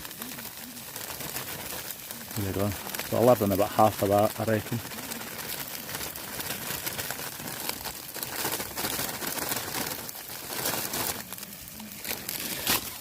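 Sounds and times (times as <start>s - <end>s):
plastic bag crinkling: 0.0s - 13.0s
vegetables sizzling in a frying pan: 0.0s - 13.0s.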